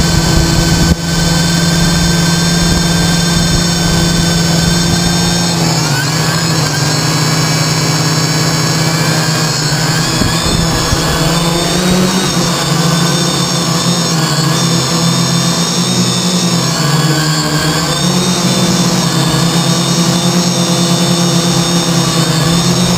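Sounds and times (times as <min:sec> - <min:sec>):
multirotor propellers whining: 0:00.0 - 0:22.9.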